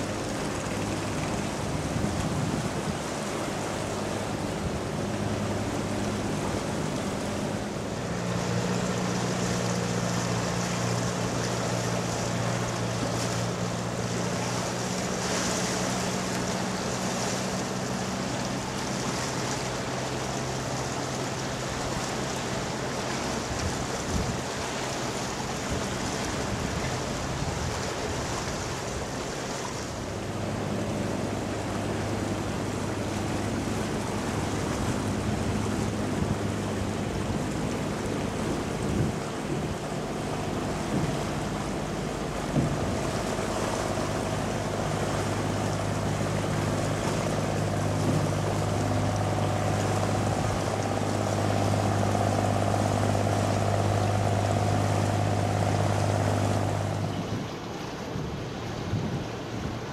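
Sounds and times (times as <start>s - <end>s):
river water: 0.0s - 59.9s
ship engine drone: 0.0s - 59.9s
wind: 0.0s - 59.9s.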